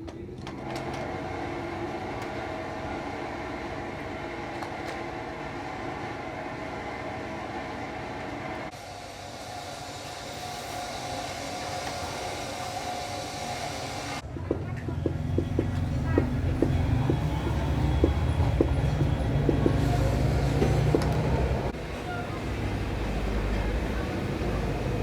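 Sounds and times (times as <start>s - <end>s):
machine humming and whirring: 0.4s - 14.3s, 15.0s - 25.0s.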